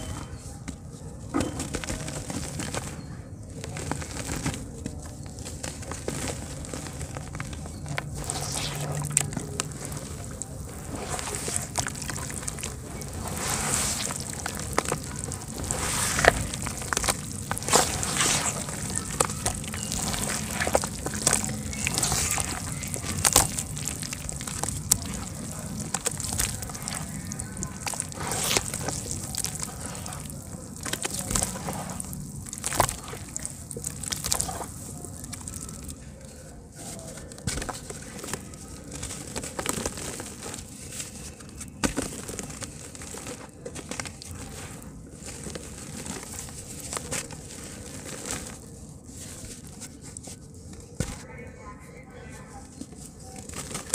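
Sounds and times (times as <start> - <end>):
small crackles and pops: 1.5 - 51.2
hands squelching wet mud: 3.6 - 50.9.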